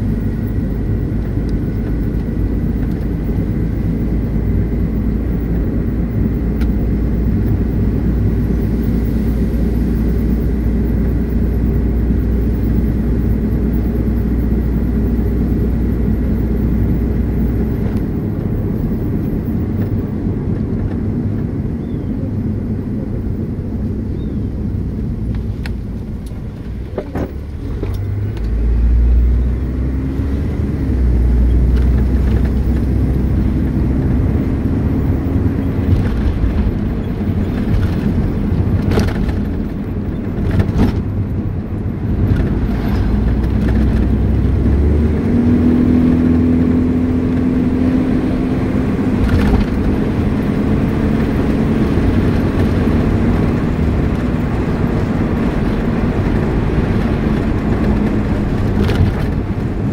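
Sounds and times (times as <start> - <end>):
car engine hum: 0.0 - 59.9
tyre and road rumble: 0.0 - 59.9.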